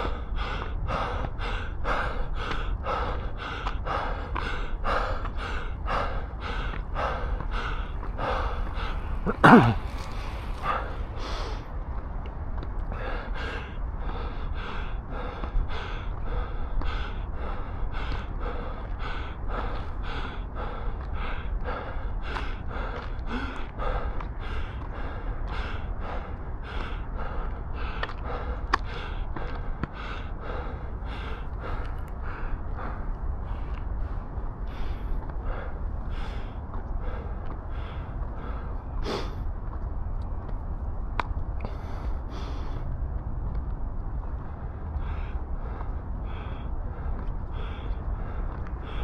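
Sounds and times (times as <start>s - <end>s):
runner breathing hard: 0.0s - 49.0s
wind rumble on microphone: 0.0s - 49.0s.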